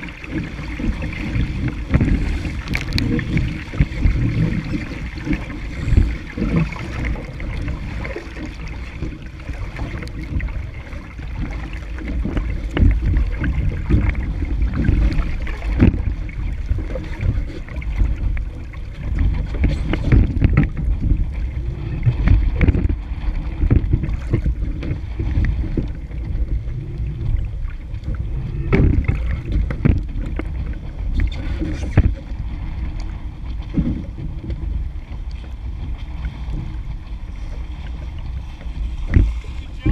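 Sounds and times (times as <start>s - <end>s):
hull thumping on waves: 0.0s - 39.9s
water rushing against hull: 0.0s - 39.9s
wind buffeting microphone: 0.0s - 39.9s.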